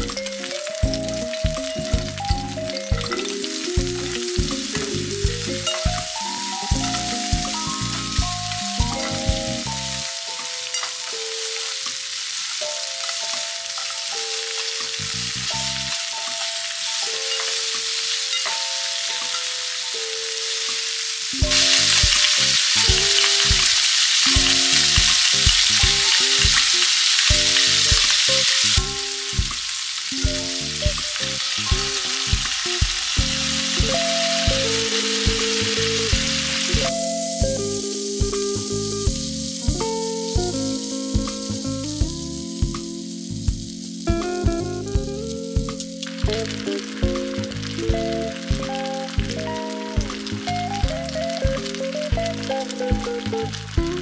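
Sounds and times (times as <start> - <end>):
food sizzling in oil: 0.0 - 54.0
light melody with soft beat: 0.0 - 54.0
chopsticks stirring: 0.2 - 29.4, 30.0 - 49.5.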